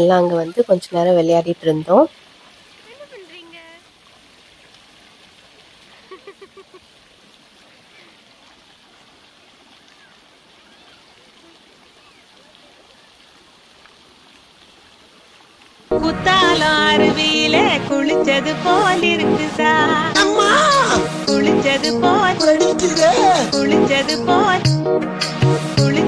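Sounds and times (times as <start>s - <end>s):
rush of water: 0.0s - 24.6s.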